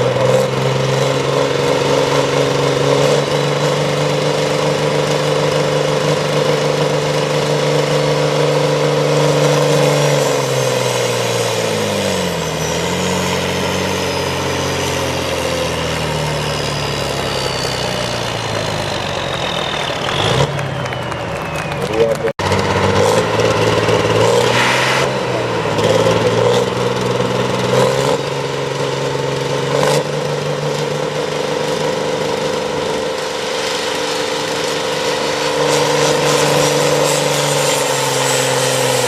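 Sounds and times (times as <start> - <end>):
high whine: 0.0 - 39.0
tractor engine running: 0.0 - 39.0.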